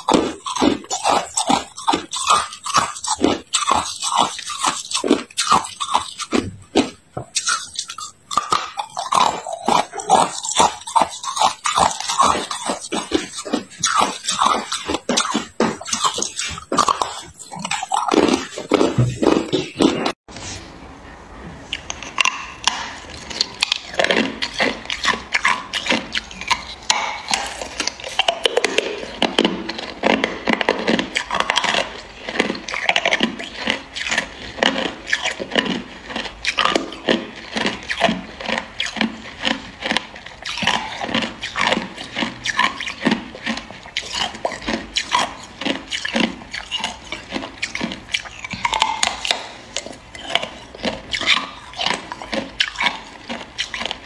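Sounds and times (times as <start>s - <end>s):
ice crunching between teeth: 0.0s - 20.2s, 21.8s - 54.0s.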